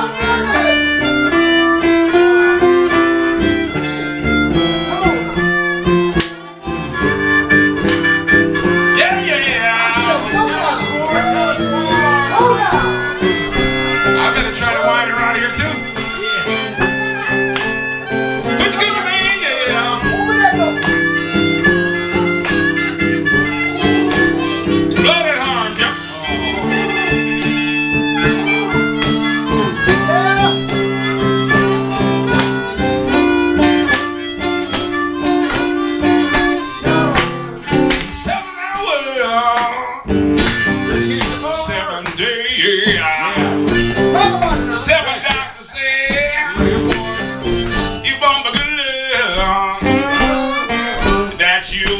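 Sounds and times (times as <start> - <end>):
blues harmonica solo: 0.0 - 38.3, 39.8 - 51.8
strummed acoustic guitar: 0.0 - 51.9.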